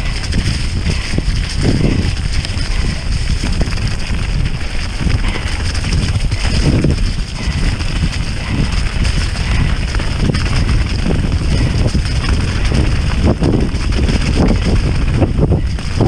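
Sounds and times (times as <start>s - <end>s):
bike rattling over rough ground: 0.0s - 16.0s
tyre noise: 0.0s - 16.0s
wind buffeting microphone: 0.0s - 16.0s.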